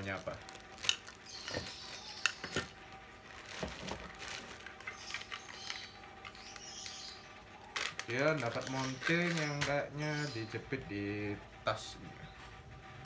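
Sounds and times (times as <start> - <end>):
plastic bags rustling: 0.0 - 10.6.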